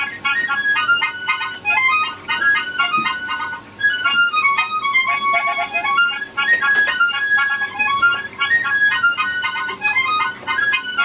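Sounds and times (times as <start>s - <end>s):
harmonica melody: 0.0s - 11.0s.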